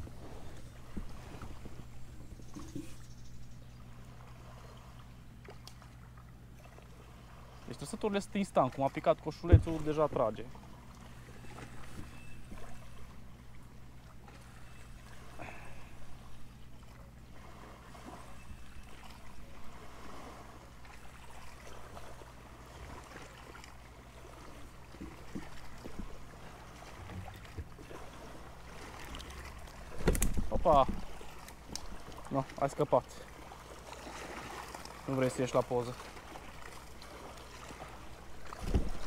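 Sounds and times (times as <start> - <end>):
steady low hum: 0.0 - 39.0
water lapping and trickling: 0.0 - 39.0.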